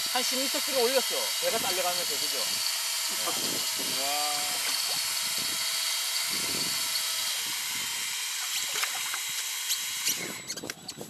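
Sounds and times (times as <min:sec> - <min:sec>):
fishing reel motor whine: 0:00.0 - 0:11.0.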